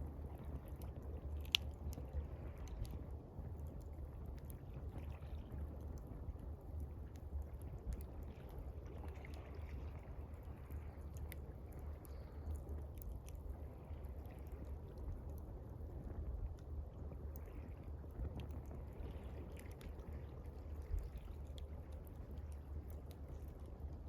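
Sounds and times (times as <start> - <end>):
gently moving water: 0.0 - 24.0
steady low rumble: 0.0 - 24.0.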